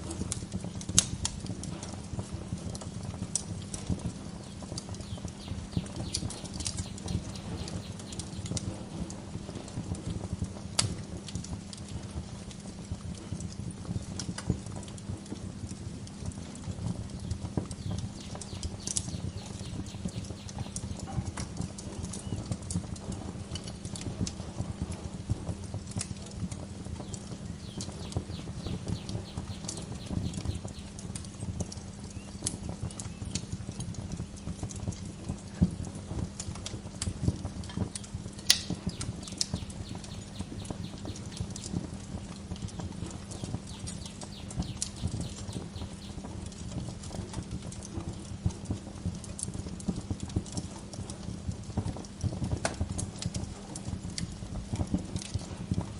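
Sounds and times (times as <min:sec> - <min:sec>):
fire popping and snapping: 0:00.0 - 0:55.9
low rumble of flame: 0:00.0 - 0:55.9.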